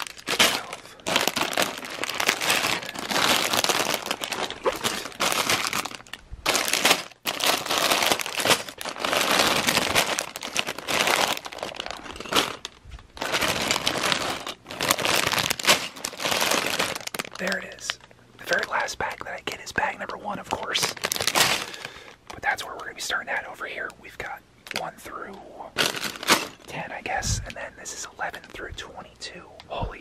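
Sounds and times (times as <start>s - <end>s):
plastic bags crinkling: 0.0s - 22.6s, 25.7s - 27.2s, 28.4s - 28.6s.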